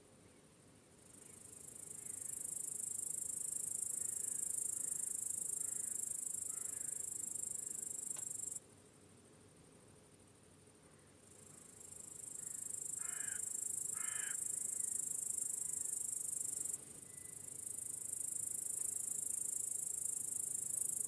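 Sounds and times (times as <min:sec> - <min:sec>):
faint insect chorus: 0:00.0 - 0:21.0
crickets chirring: 0:01.0 - 0:08.6, 0:09.5 - 0:21.0.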